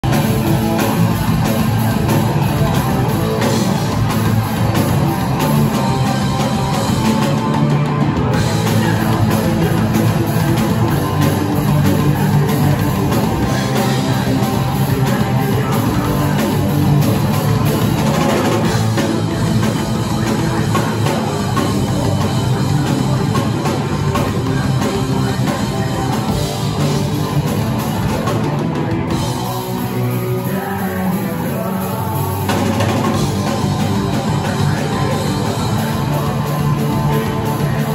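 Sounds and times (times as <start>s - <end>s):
bass guitar: 0.0s - 37.9s
drum kit: 0.0s - 37.9s
electric guitars: 0.0s - 37.9s.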